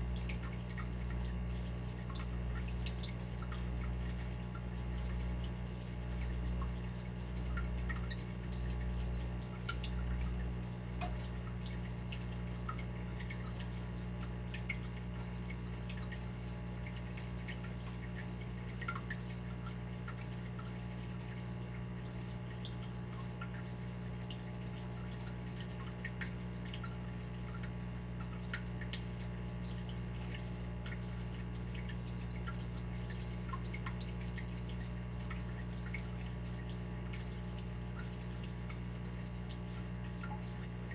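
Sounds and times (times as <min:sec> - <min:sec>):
water dripping: 0:00.0 - 0:40.9.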